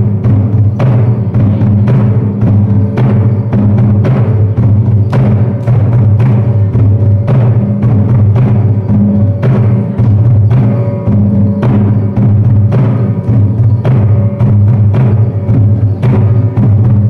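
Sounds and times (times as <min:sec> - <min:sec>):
drum beating: 0:00.0 - 0:17.0.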